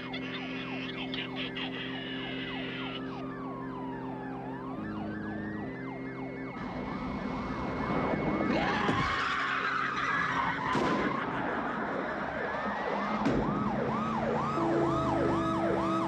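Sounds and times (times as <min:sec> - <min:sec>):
police sirens wailing: 0:00.0 - 0:16.0
speeding cars: 0:00.0 - 0:16.0.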